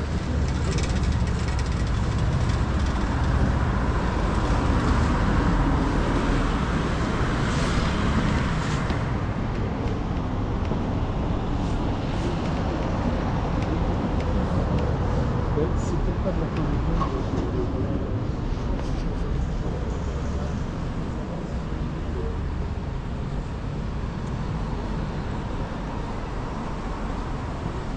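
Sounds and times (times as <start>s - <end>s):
city street traffic rumble: 0.0s - 27.9s.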